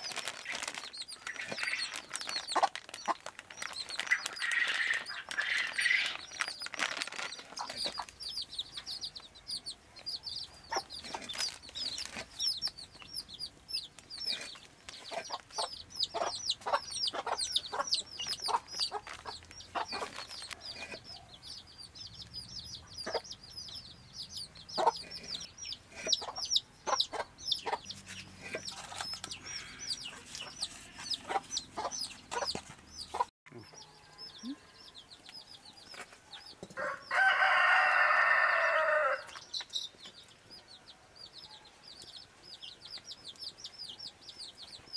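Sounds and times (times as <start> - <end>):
chickens clucking: 0.0 - 6.6, 7.2 - 40.6
chicks chirping: 0.0 - 38.3, 39.2 - 44.9.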